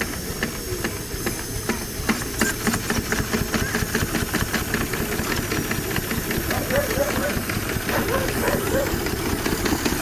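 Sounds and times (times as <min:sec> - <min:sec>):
steam engine exhaust beats: 0:00.0 - 0:10.0
steam hissing: 0:00.0 - 0:10.0.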